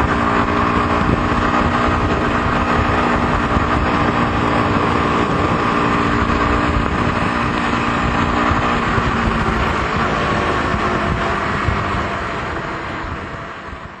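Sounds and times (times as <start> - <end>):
motorcycle engine: 0.0 - 14.0
rushing wind: 0.0 - 14.0.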